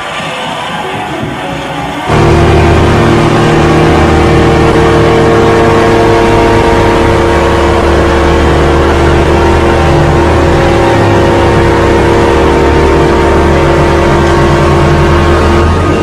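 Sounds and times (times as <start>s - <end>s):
vacuum cleaner running: 2.1s - 16.0s.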